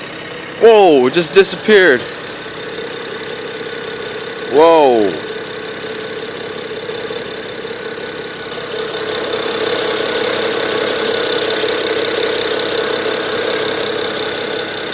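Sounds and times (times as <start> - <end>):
car engine running: 0.0 - 14.9.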